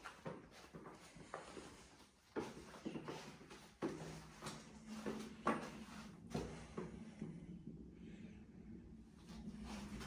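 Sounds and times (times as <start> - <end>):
soft footsteps on carpet: 0.0 - 7.3, 9.2 - 10.0
faint steady hum: 0.0 - 10.0.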